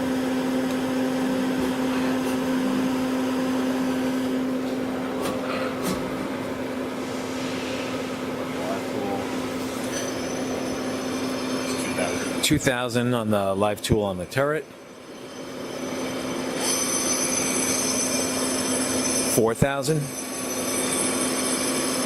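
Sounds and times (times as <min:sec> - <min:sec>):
lathe machine hum: 0:00.0 - 0:12.5, 0:14.6 - 0:22.0.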